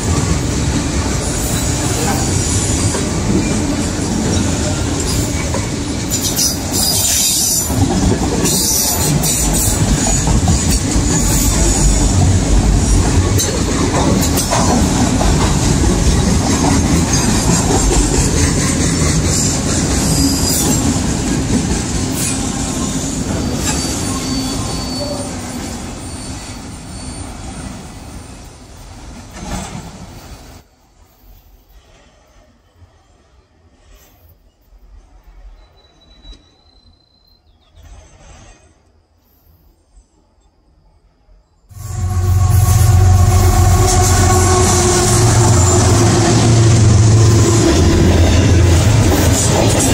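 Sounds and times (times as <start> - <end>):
train wheels rumbling on rail: 0.0 - 36.7, 41.7 - 49.9.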